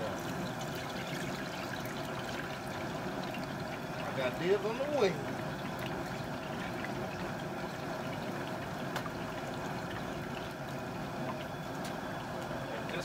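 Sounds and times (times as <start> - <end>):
hot oil bubbling and sizzling: 0.0 - 13.0
oil dripping into oil: 0.1 - 13.0.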